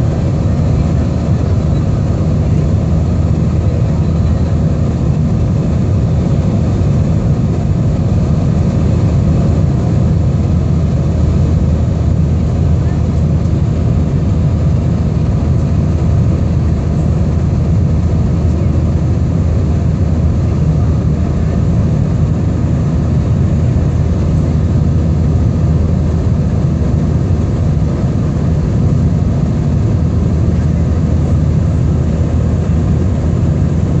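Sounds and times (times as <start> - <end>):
jet engines rumbling: 0.0 - 34.0.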